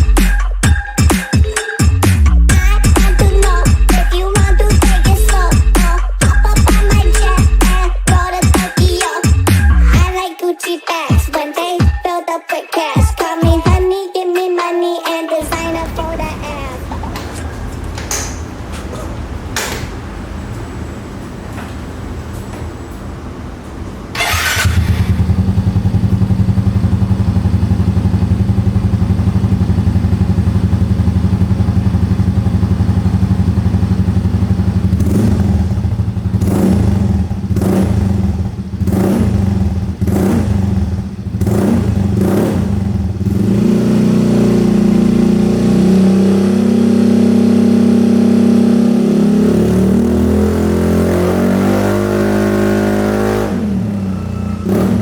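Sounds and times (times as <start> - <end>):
scooter engine idling and revving: 0.0 - 10.2, 15.4 - 20.4, 24.1 - 55.0.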